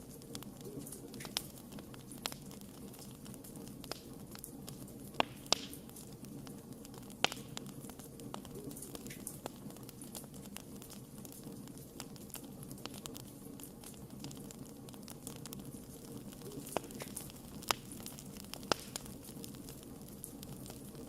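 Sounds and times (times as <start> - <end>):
fire sharp pops: 0.0 - 21.0
wood fire crackling: 0.0 - 21.0.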